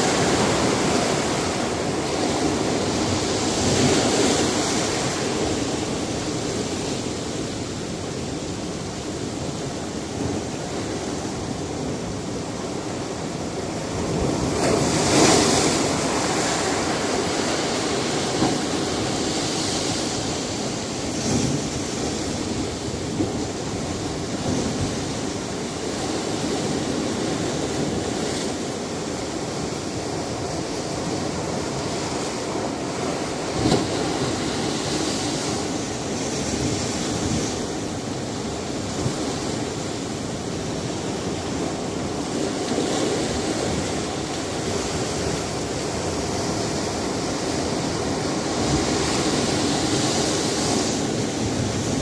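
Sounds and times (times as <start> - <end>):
waves splashing against rocks: 0.0 - 52.0
waves washing on shore: 0.0 - 52.0.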